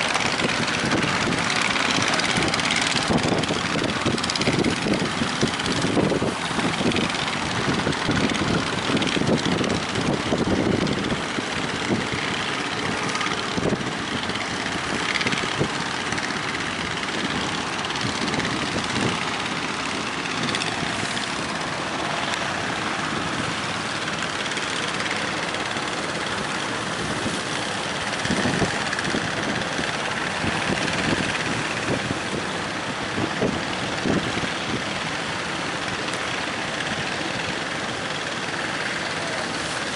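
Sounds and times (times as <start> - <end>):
strong wind rushing: 0.0 - 34.9
wind gusts buffeting microphone: 0.0 - 39.9.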